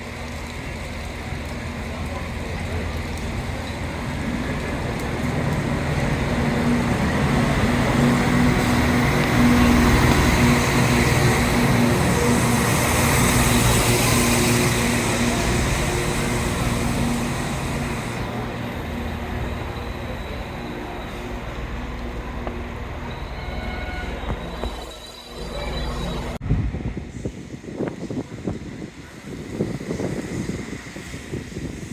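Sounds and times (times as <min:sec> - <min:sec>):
diesel train passing: 0:00.0 - 0:31.9.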